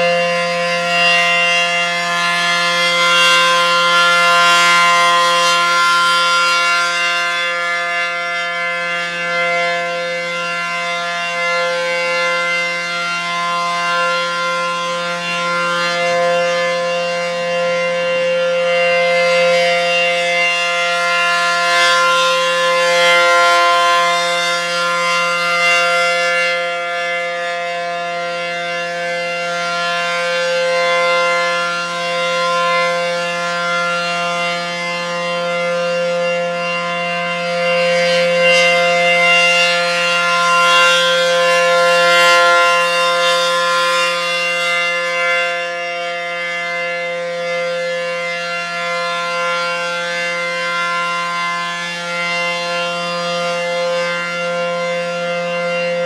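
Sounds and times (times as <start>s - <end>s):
warning siren sounding a chord: 0.0s - 56.0s.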